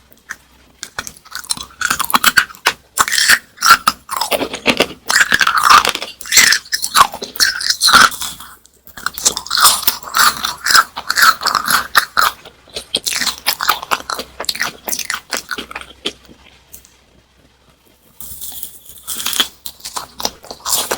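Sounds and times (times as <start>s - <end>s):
crunching crisp snack: 0.2s - 20.9s.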